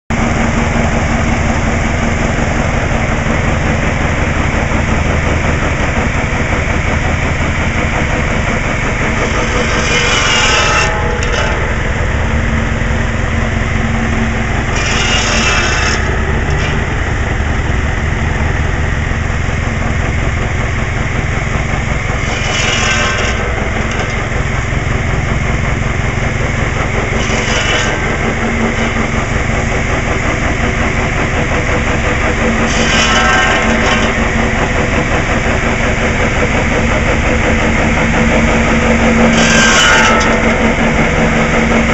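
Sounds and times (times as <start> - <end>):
engine-driven saw running: 0.1 - 41.9.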